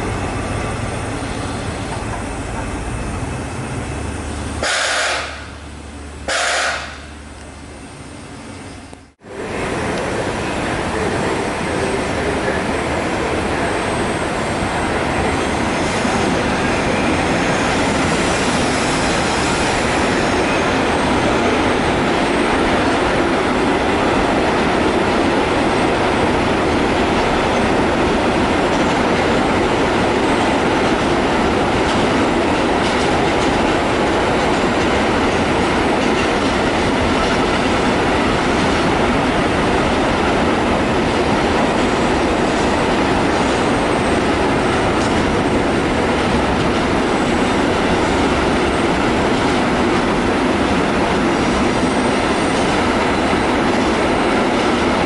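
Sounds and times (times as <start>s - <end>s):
train wheels rolling on track: 0.0s - 55.0s.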